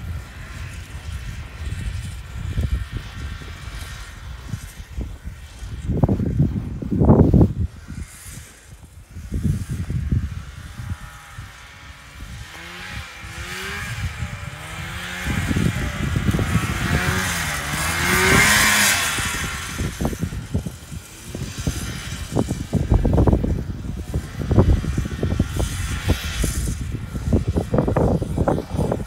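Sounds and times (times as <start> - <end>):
snowmobile engine passing by: 0.0 - 29.0
wind buffeting microphone: 0.0 - 29.0.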